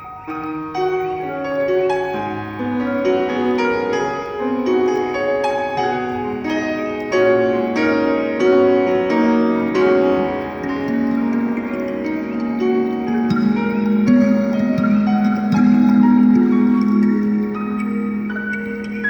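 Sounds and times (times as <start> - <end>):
ambient music with ringing notes: 0.0 - 19.0.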